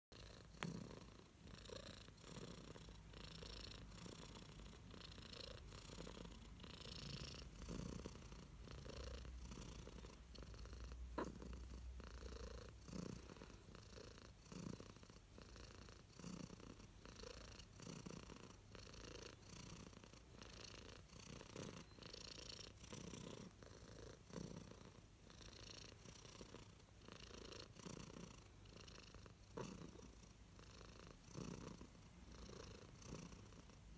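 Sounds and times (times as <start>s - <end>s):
cat purring: 0.1s - 33.9s.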